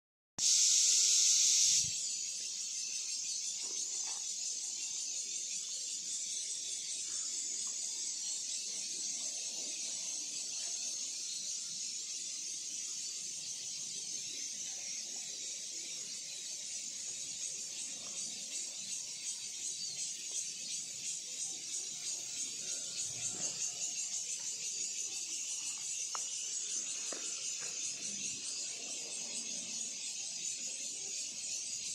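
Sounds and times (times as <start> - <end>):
high-pitched hiss: 0.4 - 31.9.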